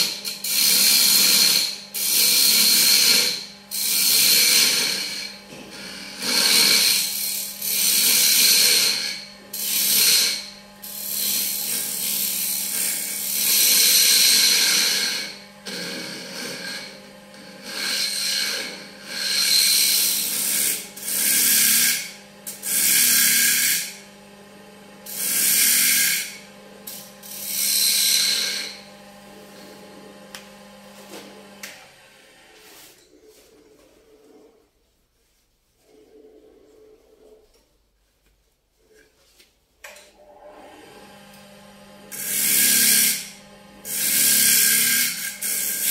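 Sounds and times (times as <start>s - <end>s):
wood lathe motor hum: 0.0s - 32.9s, 40.2s - 45.9s.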